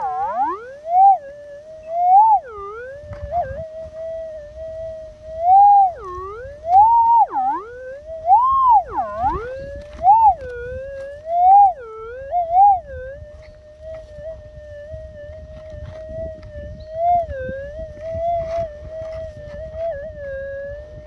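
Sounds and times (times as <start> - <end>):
metal detector tone swooping: 0.0 - 21.0.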